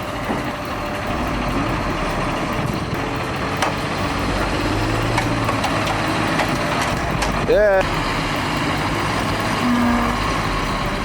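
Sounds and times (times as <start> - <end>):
heavy machine engines humming: 0.0 - 11.0.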